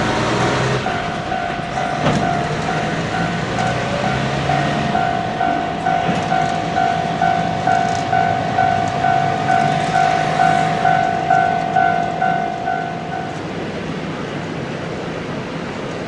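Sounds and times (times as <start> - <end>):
level-crossing warning bell ringing: 0.0 - 15.0
traffic rumble: 0.0 - 16.0.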